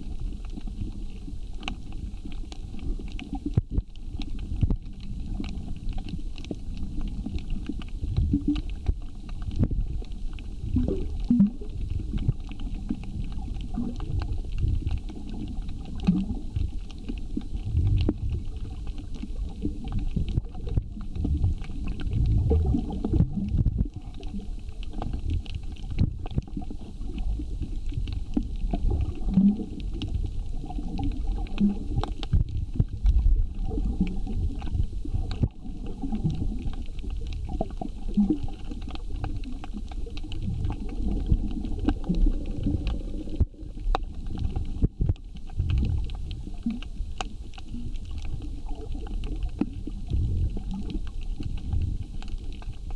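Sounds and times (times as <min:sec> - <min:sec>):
underwater rumbling and gurgling: 0:00.0 - 0:52.9
sharp underwater clicks: 0:00.1 - 0:52.9.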